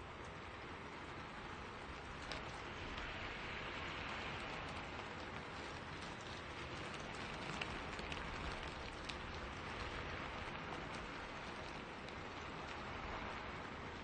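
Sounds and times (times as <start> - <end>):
rain hissing on a forest: 0.0 - 14.0
raindrops ticking close by: 0.0 - 14.0.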